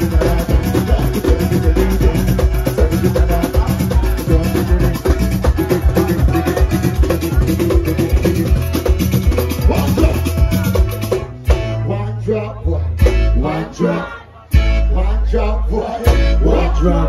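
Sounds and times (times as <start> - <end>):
heavy bass: 0.0 - 17.0
live band music over loudspeakers: 0.0 - 17.0
person singing: 0.0 - 17.0.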